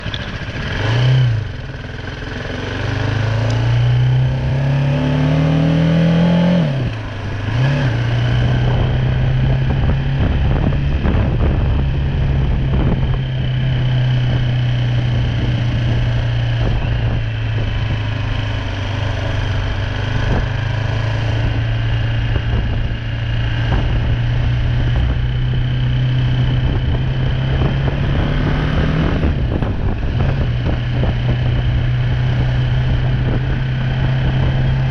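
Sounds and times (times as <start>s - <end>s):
motorcycle engine revving: 0.0s - 34.9s
wind noise on microphone: 3.8s - 34.9s.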